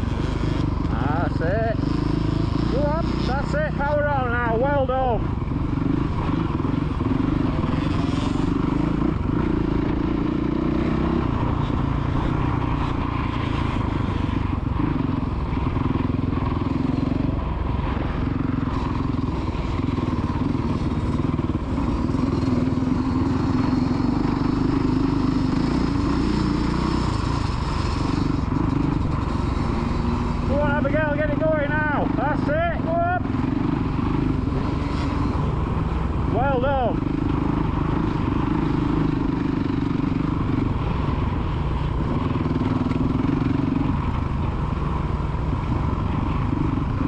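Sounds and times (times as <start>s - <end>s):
dirt bike engines: 0.0s - 47.0s.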